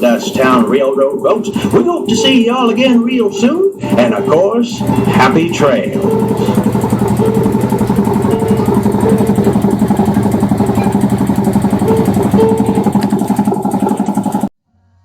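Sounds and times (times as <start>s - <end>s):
miniature train running: 0.0s - 14.5s.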